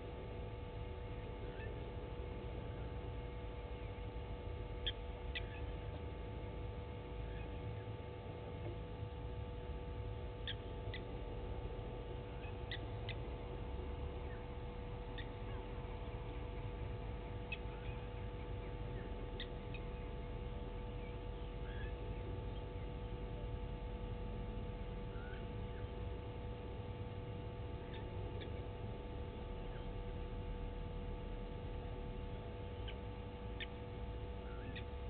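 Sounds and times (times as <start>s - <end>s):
low rumble and hum: 0.0s - 35.0s
small birds chirping: 0.1s - 8.0s, 10.2s - 23.8s, 24.6s - 26.2s, 27.5s - 30.6s, 31.5s - 35.0s.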